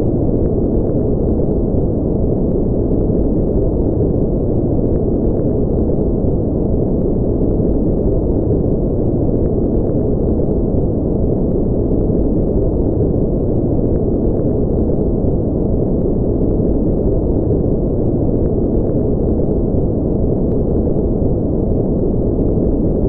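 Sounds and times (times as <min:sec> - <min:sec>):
deep muffled brown noise: 0:00.0 - 0:23.0.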